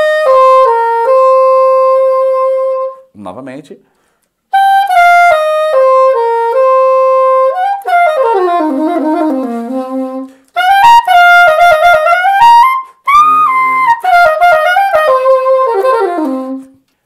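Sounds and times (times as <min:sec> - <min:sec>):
saxophone melody: 0:00.0 - 0:03.1, 0:04.5 - 0:16.9.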